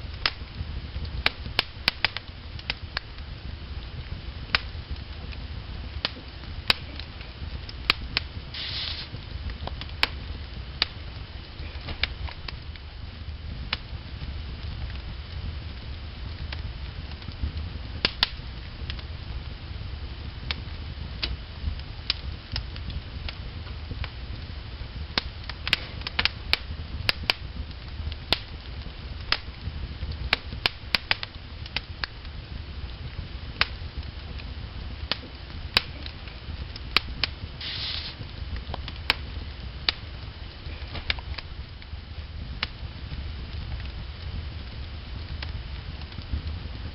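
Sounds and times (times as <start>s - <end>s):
fire hissing: 0.0s - 46.9s
low steady rumble: 0.0s - 46.9s
wood fire crackling: 0.0s - 46.9s.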